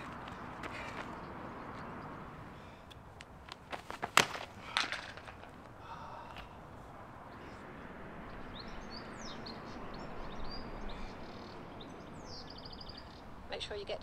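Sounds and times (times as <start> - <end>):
small birds chirping: 0.0 - 3.1, 5.6 - 14.0
outdoor background noise: 0.0 - 14.0.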